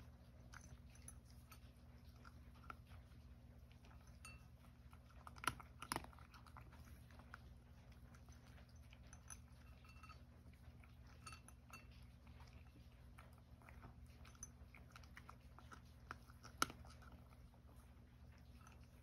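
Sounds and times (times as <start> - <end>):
cat crunching dry kibble: 0.0 - 19.0.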